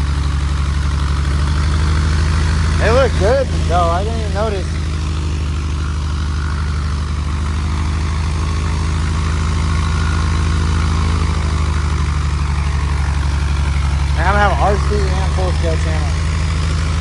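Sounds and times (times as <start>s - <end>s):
aircraft engine idling: 0.0s - 17.0s.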